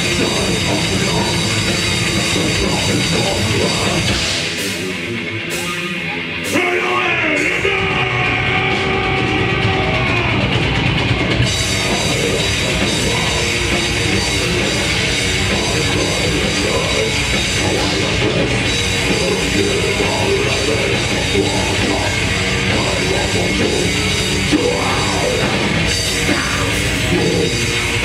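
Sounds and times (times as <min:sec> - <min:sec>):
death metal band playing: 0:00.0 - 0:28.0.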